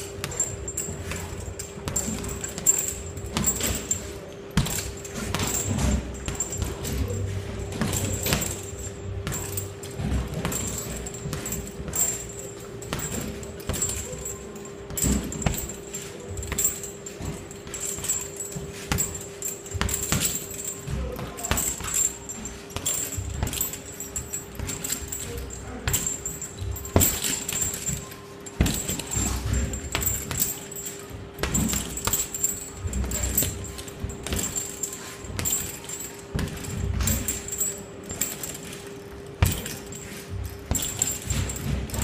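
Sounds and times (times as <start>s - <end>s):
gloves punching heavy bag: 0.0s - 42.0s
steady hum: 0.0s - 42.0s.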